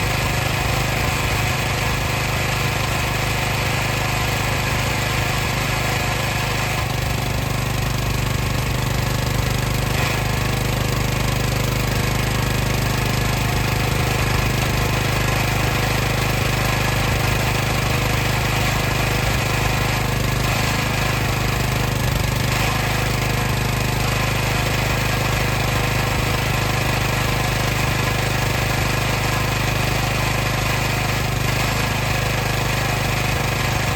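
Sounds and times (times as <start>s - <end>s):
water pump humming: 0.0s - 33.9s.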